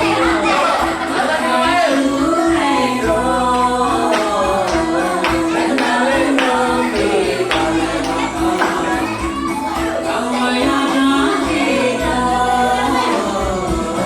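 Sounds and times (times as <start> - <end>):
song with steady beat: 0.0 - 12.2.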